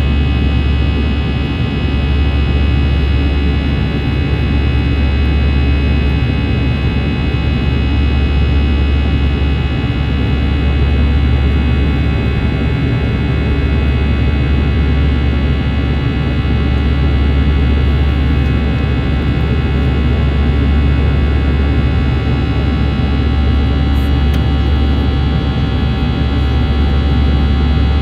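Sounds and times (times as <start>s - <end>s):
jet engines running in cabin: 0.0s - 28.0s.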